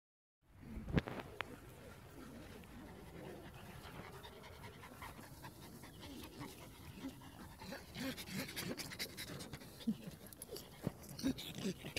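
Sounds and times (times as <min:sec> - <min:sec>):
dogs panting: 0:01.4 - 0:11.9.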